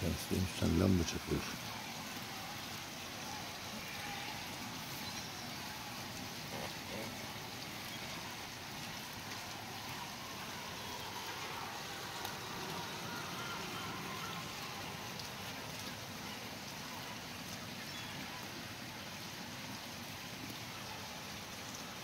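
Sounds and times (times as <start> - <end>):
rain falling on a wet street: 0.0 - 22.0.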